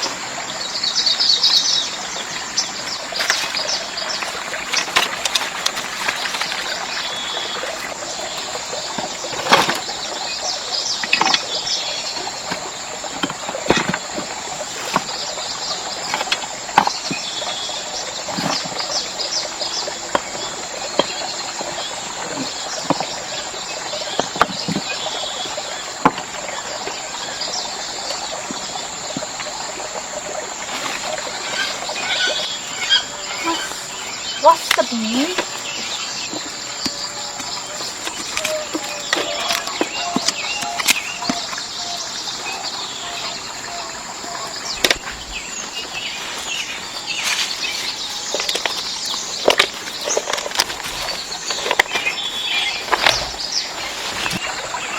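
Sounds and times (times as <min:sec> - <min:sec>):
insect whine: 0:00.0 - 0:54.9.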